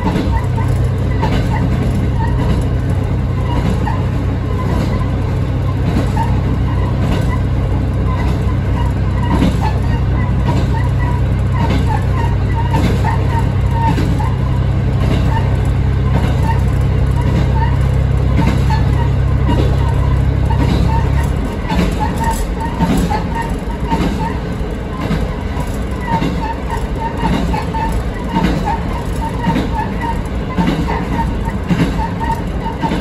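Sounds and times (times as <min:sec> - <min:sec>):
railcar engine drone: 0:00.0 - 0:33.0
wheels clicking over rails: 0:00.0 - 0:33.0.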